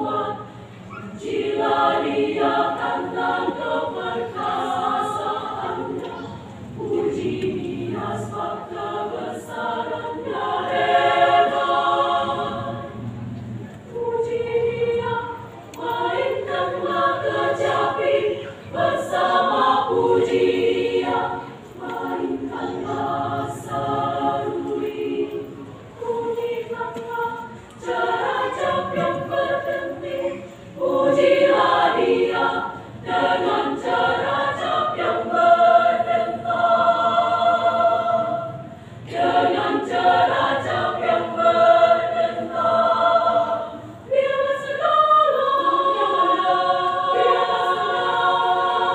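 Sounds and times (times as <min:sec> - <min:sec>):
women's choir singing a hymn: 0:00.0 - 0:48.9.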